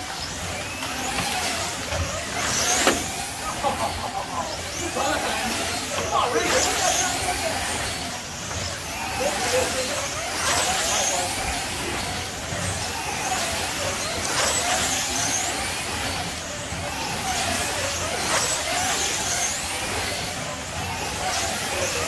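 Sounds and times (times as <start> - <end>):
slot car motors whining: 0.0 - 22.0.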